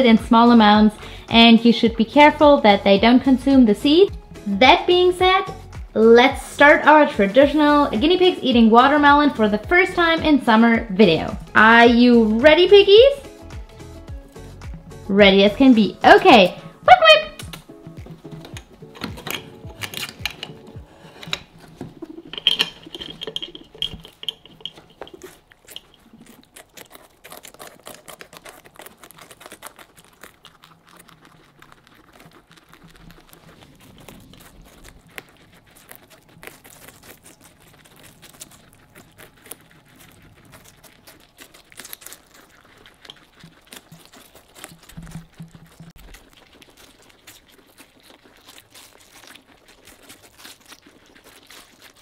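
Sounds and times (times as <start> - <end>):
guinea pigs chewing watermelon: 0.0 - 52.0.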